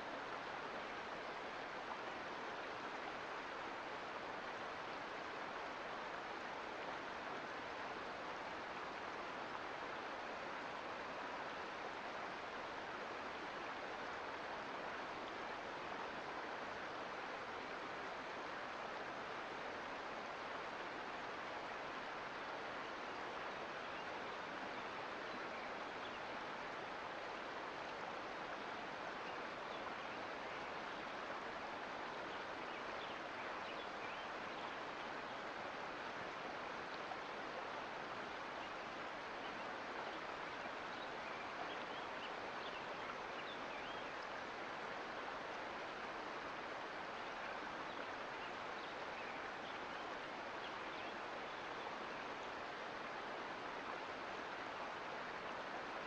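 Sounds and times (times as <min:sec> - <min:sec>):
creek water babbling: 0:00.0 - 0:56.0.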